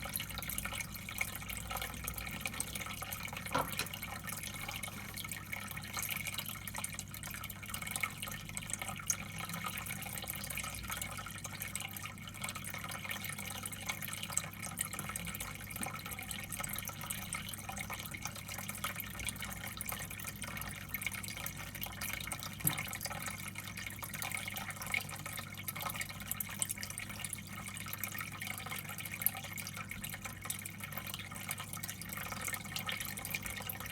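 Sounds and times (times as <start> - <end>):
water trickling and dripping: 0.0 - 33.9.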